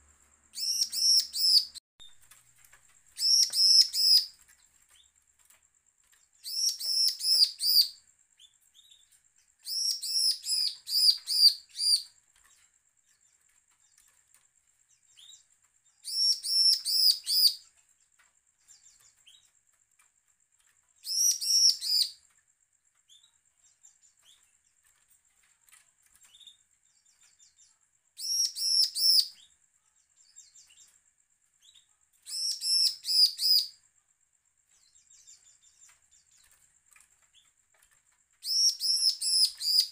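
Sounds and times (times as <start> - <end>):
bird high chirping song: 0.5 - 5.5, 6.1 - 19.6, 20.9 - 31.0, 31.6 - 33.9, 34.6 - 39.9.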